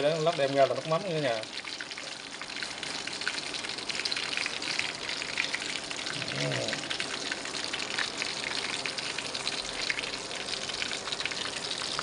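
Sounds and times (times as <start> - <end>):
fish deep-frying in hot oil: 0.0 - 12.0.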